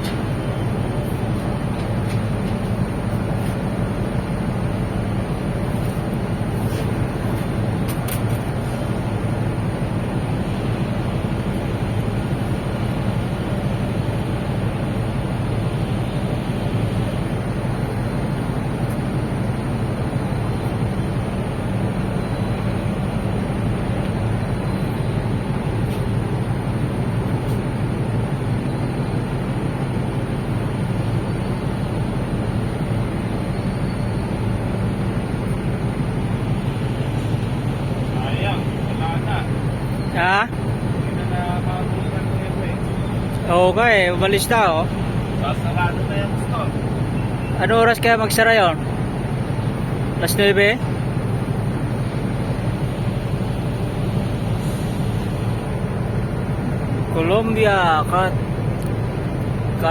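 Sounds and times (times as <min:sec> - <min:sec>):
low engine rumble: 0:00.0 - 0:59.9.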